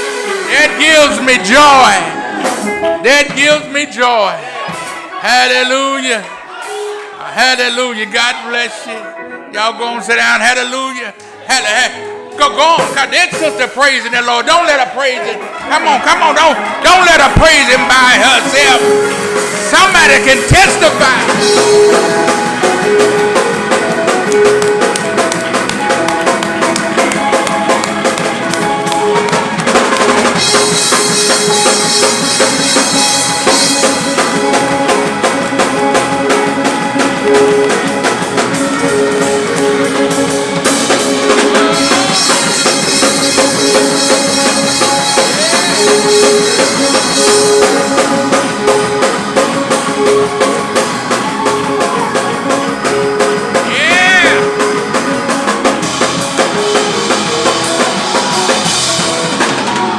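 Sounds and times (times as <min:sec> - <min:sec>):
drum kit beat: 0:00.0 - 0:07.7, 0:12.4 - 0:59.9
repeating melodic figure: 0:11.5 - 0:59.5.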